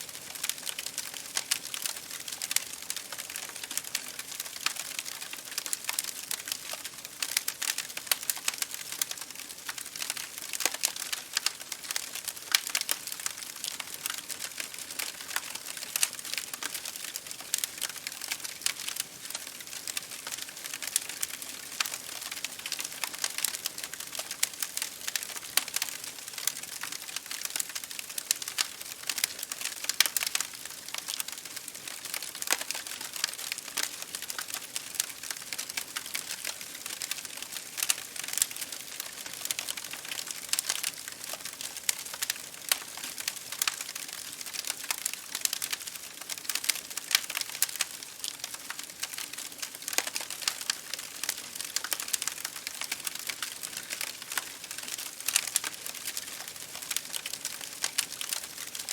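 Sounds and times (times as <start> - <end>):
rain hissing against a window: 0.0 - 58.9
wood fire crackling: 0.1 - 58.9.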